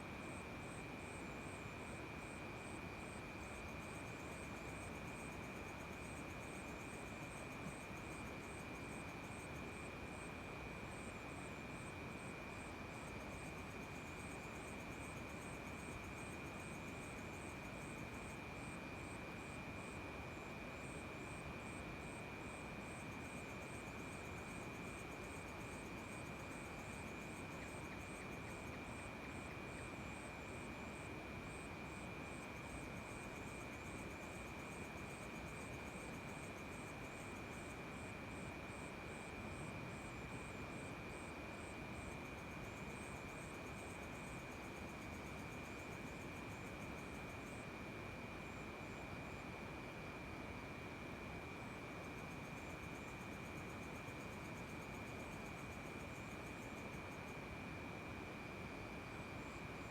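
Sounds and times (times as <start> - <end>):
insect chirping: 0.0 - 50.5, 51.4 - 59.9
crickets trilling: 0.0 - 59.9.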